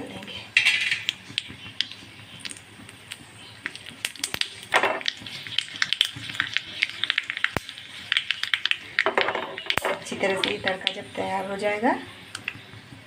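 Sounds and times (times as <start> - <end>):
seeds popping in hot oil: 0.2 - 13.0.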